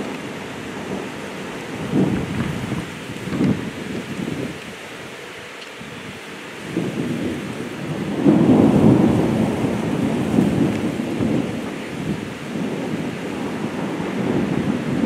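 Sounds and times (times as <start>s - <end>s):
thunder rumbling: 0.0s - 4.9s, 6.0s - 15.0s
steady rain: 0.0s - 15.0s.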